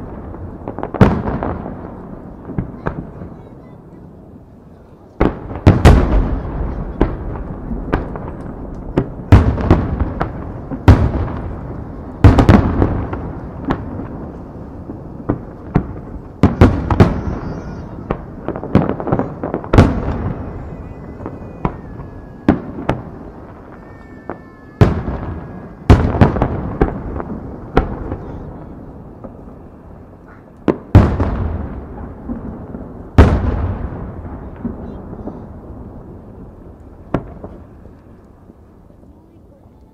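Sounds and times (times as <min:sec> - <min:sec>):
fireworks booming: 0:00.0 - 0:39.9.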